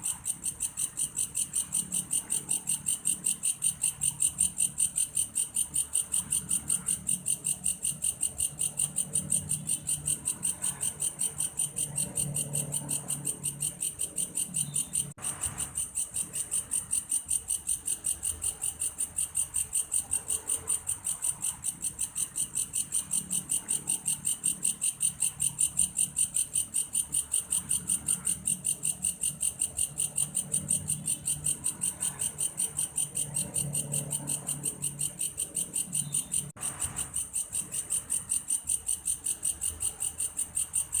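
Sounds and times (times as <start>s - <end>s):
insect chirring: 0.0s - 41.0s.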